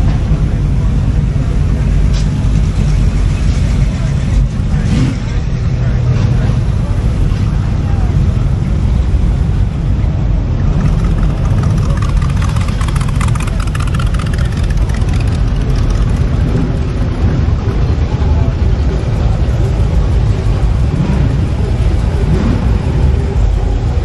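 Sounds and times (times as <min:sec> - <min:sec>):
car engine running: 0:00.0 - 0:24.0
voices in background: 0:00.0 - 0:24.0.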